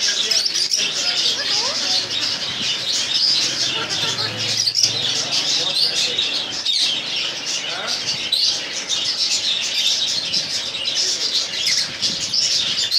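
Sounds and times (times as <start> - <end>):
caged birds chirping: 0.0 - 12.9.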